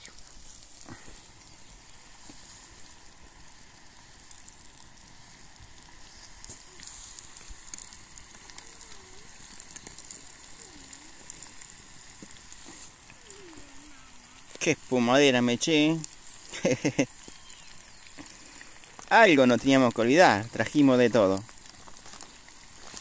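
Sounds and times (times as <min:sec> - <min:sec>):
potatoes sizzling in hot oil: 0:00.0 - 0:23.0.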